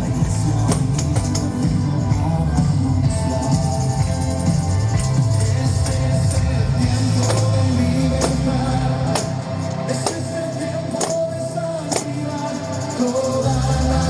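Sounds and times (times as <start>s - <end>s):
sharp percussion hits: 0.0s - 13.9s
worship music: 0.0s - 14.0s.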